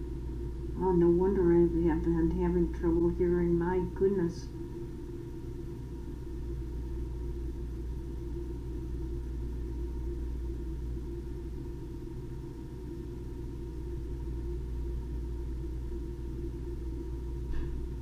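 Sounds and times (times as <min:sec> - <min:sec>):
steady whine: 0:00.0 - 0:18.0.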